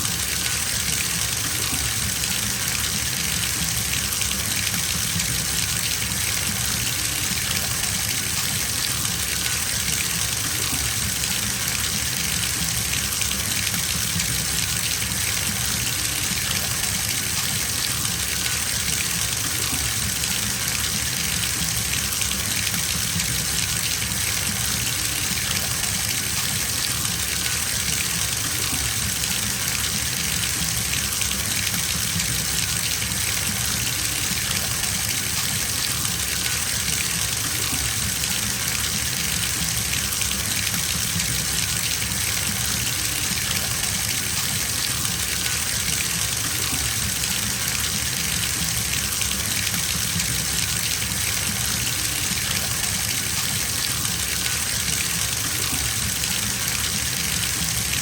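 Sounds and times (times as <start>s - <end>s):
tap water gushing into bathtub: 0.0s - 58.0s.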